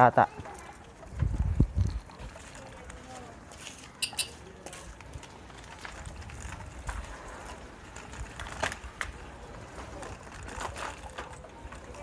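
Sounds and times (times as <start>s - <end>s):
bike rattles and clicks: 0.0s - 12.0s
bicycle tyres rumbling on concrete: 0.3s - 12.0s.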